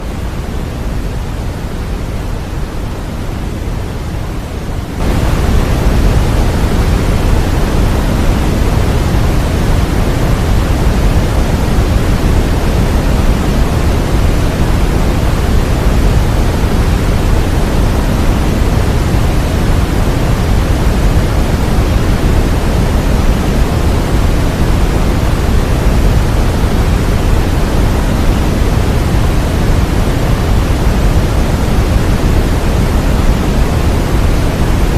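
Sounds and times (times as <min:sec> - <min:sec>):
white noise hiss: 0:00.0 - 0:34.9.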